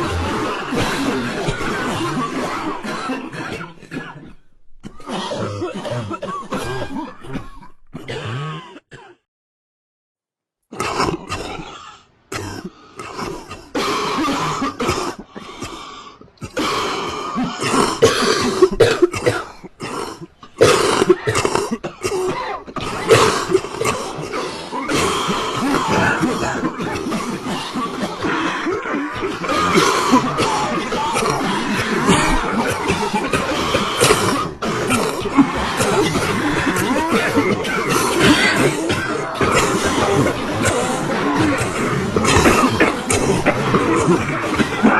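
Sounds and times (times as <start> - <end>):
people coughing: 0.0 - 9.2, 10.7 - 44.9.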